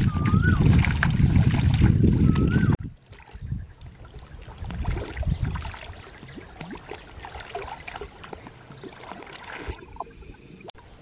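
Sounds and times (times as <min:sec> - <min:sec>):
water splashing: 0:00.0 - 0:10.8
stream flowing: 0:00.0 - 0:11.0.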